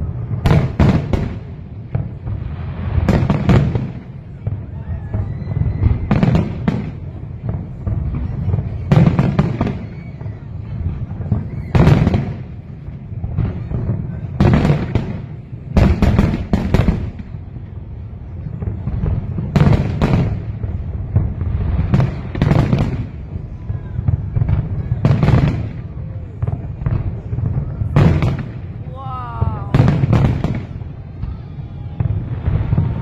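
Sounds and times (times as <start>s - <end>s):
firework cracks: 0.0s - 33.0s.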